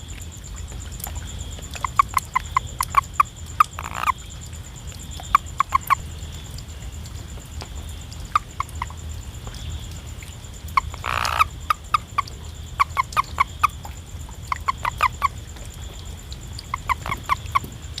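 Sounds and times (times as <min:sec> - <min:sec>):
frog calling: 0:00.0 - 0:18.0.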